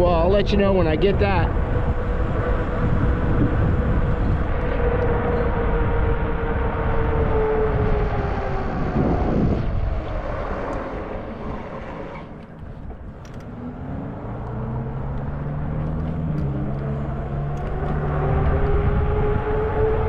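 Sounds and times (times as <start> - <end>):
wind noise: 0.0 - 20.0
electric motor whining hum: 1.0 - 20.0.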